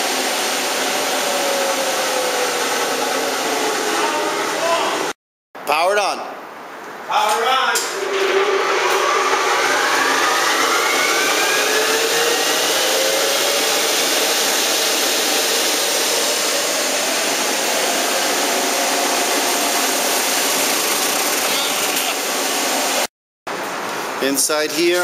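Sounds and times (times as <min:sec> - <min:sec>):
vacuum motor whine and air rush: 0:00.0 - 0:05.1, 0:07.7 - 0:23.1.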